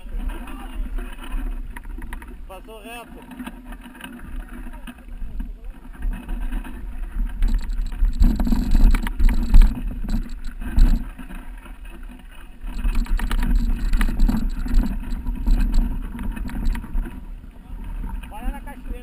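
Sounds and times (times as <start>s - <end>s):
bike rattling and knocking: 0.0s - 19.0s
wind rumbling on microphone: 0.0s - 19.0s.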